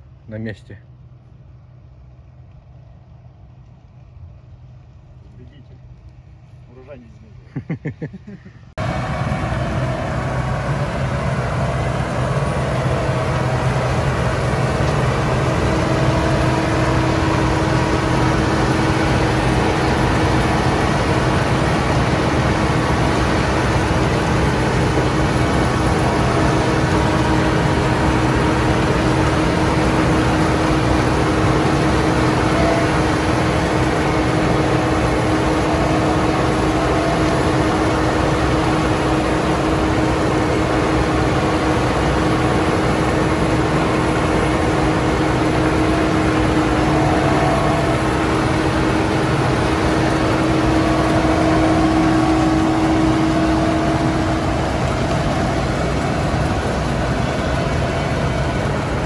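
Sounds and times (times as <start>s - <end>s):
combine harvester diesel drone: 0.0s - 59.0s.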